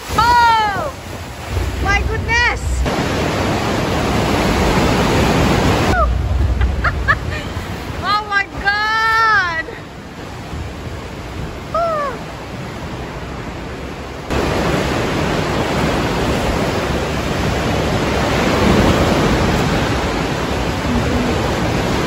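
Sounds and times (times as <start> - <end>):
wind on microphone: 0.0 - 13.4, 14.4 - 22.0
boat through choppy waves: 0.0 - 22.0.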